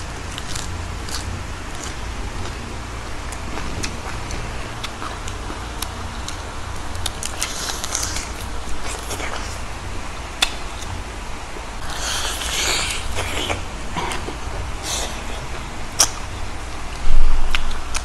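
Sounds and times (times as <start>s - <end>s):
crunching and chewing food: 0.0s - 18.0s
steady low hum: 0.0s - 18.0s.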